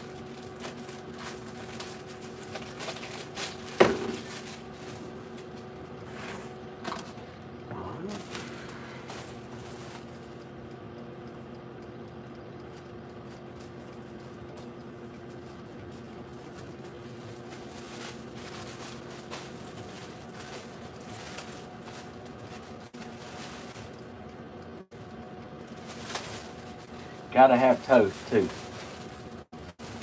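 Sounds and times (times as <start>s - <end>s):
appliance humming: 0.0s - 30.0s.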